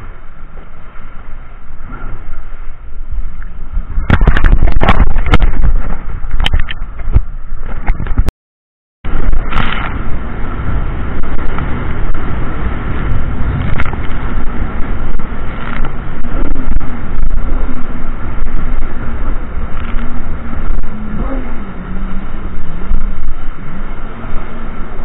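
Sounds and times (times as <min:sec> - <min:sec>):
jet ski engine running: 0:00.0 - 0:08.3, 0:09.1 - 0:25.0
wind and water noise: 0:00.0 - 0:08.3, 0:09.0 - 0:25.0.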